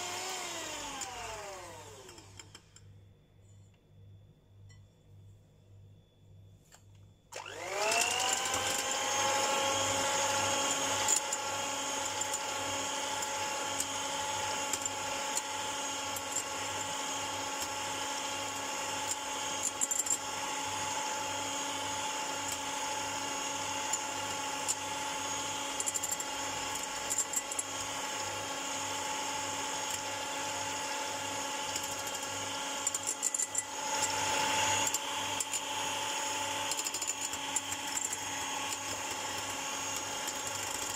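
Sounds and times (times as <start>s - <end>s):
electric hand mixer whining: 0.0s - 2.6s, 7.3s - 40.9s.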